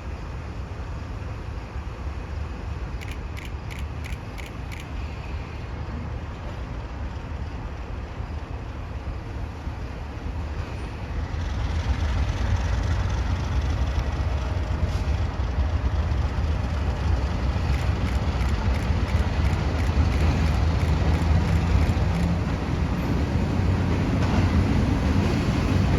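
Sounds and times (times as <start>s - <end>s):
diesel locomotive rumbling: 0.0s - 25.9s.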